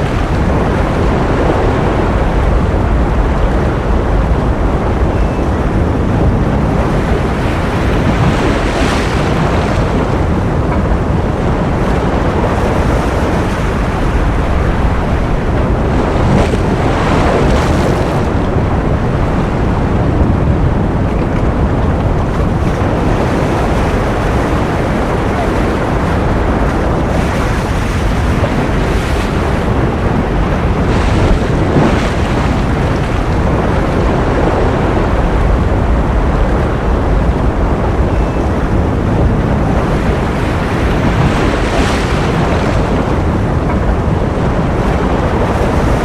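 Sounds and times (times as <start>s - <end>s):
ocean surf: 0.0s - 46.0s.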